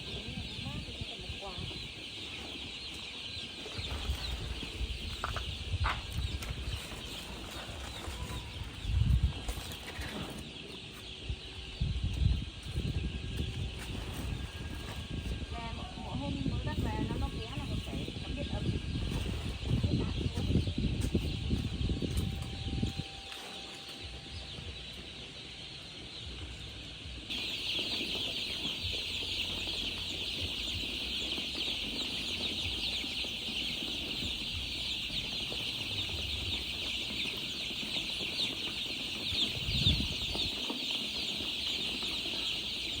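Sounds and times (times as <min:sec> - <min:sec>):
baby chicks peeping: 0:00.0 - 0:43.0.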